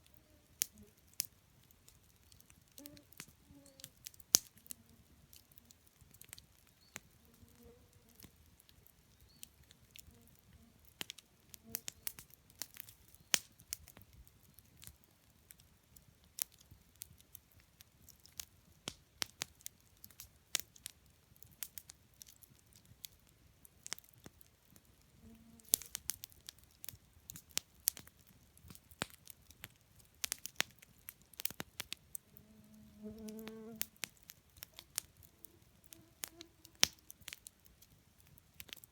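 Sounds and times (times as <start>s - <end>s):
campfire crackling and popping: 0.0s - 32.4s, 33.1s - 38.9s.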